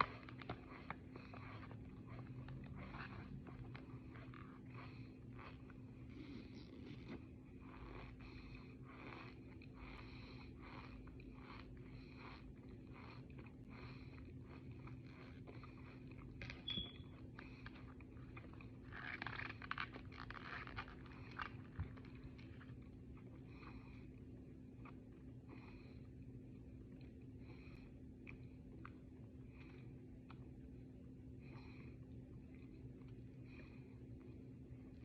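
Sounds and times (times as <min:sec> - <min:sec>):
crunchy chewing and mouth smacking: 0:00.0 - 0:25.7, 0:26.3 - 0:35.0.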